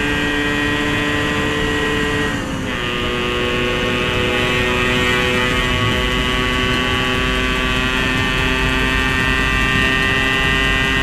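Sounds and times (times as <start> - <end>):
two-stroke motorcycle high revs: 0.0 - 11.0.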